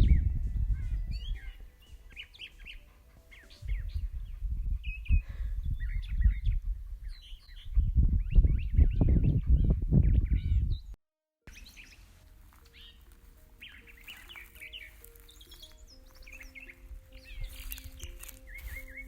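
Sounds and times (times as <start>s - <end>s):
wild birds chirping and singing: 0.0s - 19.0s.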